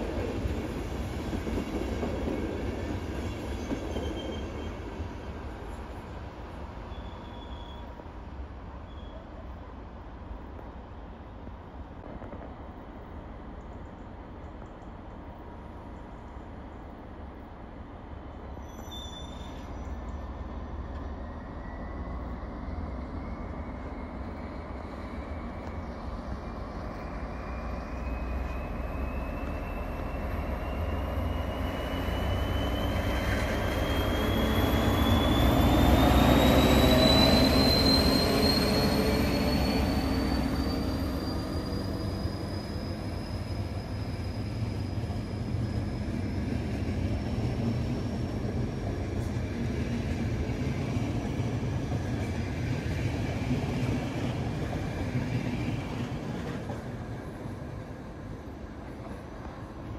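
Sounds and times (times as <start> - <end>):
coaches rolling on rails: 0.0 - 9.1, 12.0 - 59.9
diesel locomotive engine rumble: 0.0 - 59.9.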